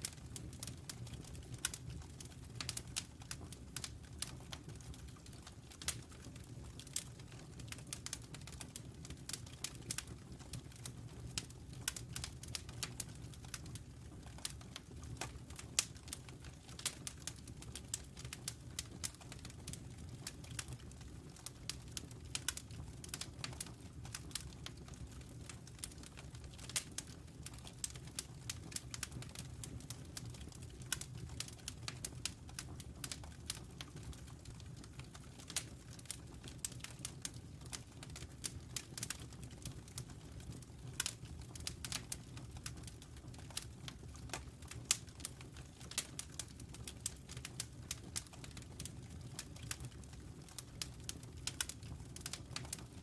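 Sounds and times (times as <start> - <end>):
logs crackling and popping: 0.0 - 53.0
low rumble of flame: 0.0 - 53.0.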